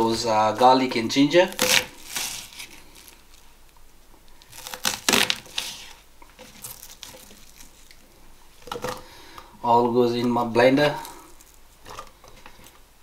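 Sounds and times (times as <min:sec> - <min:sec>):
onion skin crackling: 0:00.0 - 0:13.0.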